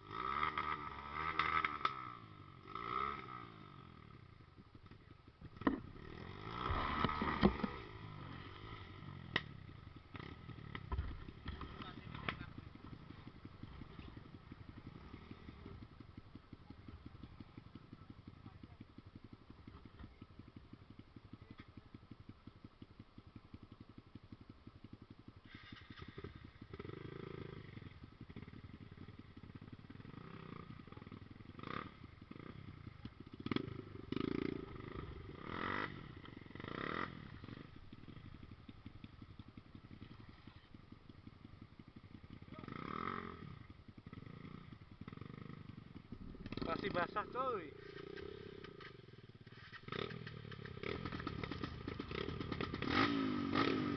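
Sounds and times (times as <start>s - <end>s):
motorcycle engine puttering: 0.0s - 53.9s.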